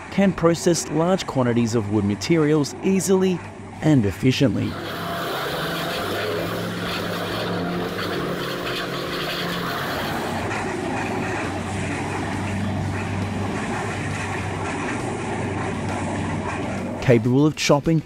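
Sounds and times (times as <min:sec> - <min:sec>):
machine engine hum: 0:00.0 - 0:18.0
dense grinding noise: 0:00.2 - 0:17.5.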